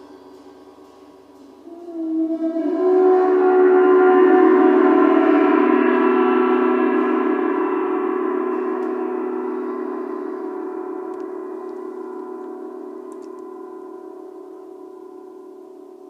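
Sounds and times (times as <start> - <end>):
gong ringing: 0.0 - 16.0.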